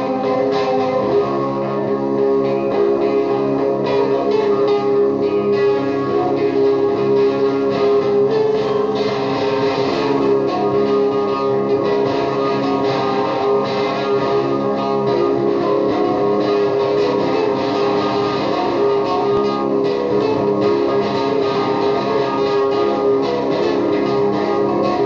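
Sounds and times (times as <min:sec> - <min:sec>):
electric guitar noise loop: 0:00.0 - 0:25.0.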